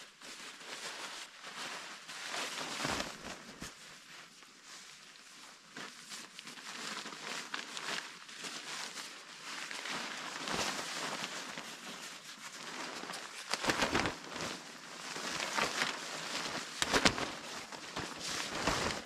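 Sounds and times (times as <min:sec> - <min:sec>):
fabric rustling: 0:00.2 - 0:19.0
fabric flapping when shaken: 0:00.3 - 0:04.1, 0:04.7 - 0:19.0.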